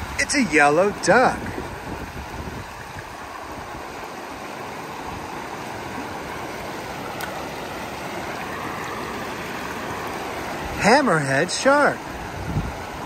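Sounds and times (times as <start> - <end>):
river water over stones: 0.0 - 13.0.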